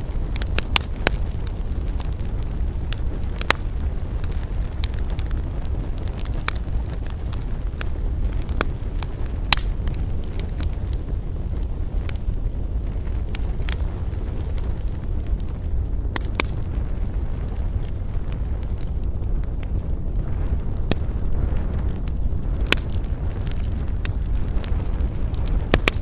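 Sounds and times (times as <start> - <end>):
campfire crackling and popping: 0.0 - 26.0
low rumble of fire: 0.0 - 26.0.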